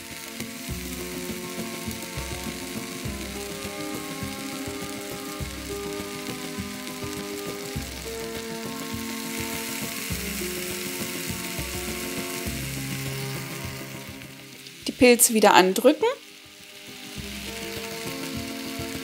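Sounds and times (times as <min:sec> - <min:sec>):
background music: 0:00.0 - 0:19.0
mushrooms sizzling in oil: 0:00.0 - 0:19.0.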